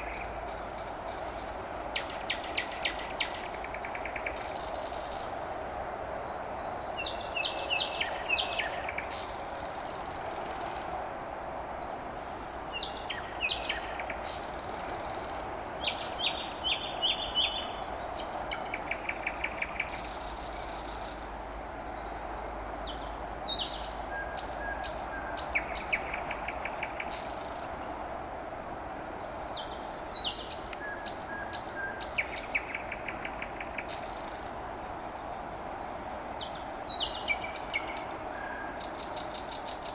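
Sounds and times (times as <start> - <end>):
nightingale singing: 0.0 - 5.7, 6.6 - 11.2, 12.7 - 22.2, 22.8 - 28.0, 29.4 - 34.8, 36.3 - 39.9
distant highway traffic hum: 0.0 - 39.9.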